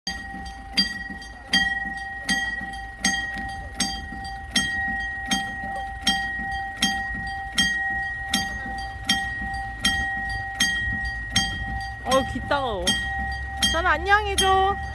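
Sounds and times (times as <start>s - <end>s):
level crossing warning bell: 0.0s - 14.9s.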